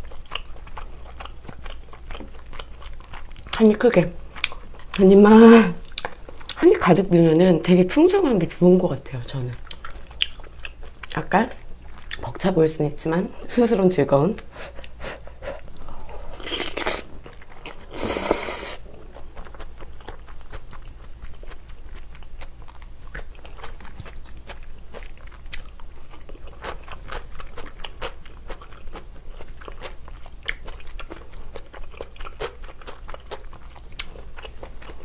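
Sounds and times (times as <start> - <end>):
wet chewing of spaghetti: 0.0 - 6.7, 9.4 - 12.4, 14.4 - 35.0.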